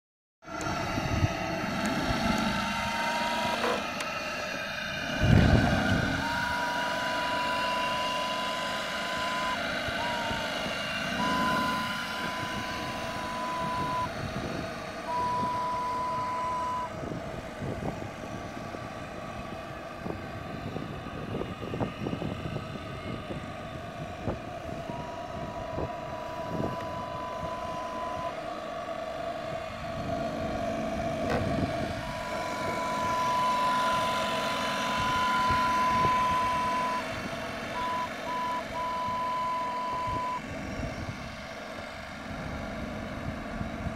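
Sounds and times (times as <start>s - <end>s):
drone propellers whirring: 0.4s - 43.9s.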